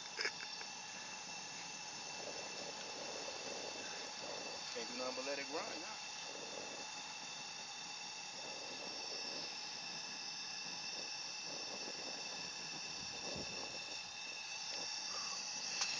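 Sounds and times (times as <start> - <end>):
furnace burner hissing: 0.0 - 15.9.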